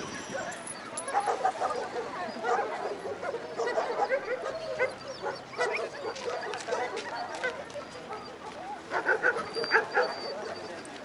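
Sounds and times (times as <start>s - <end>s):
many dogs barking and yelping: 0.0s - 11.0s.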